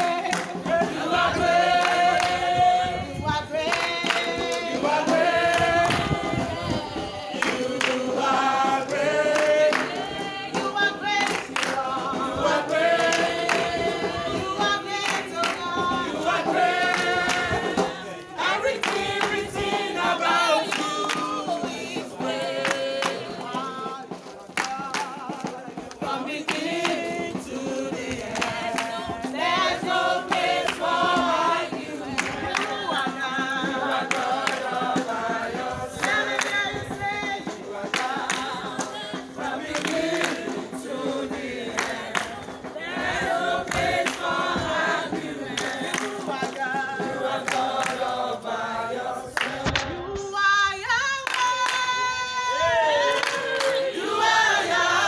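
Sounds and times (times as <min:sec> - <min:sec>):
crowd singing in chorus: 0:00.0 - 0:55.0.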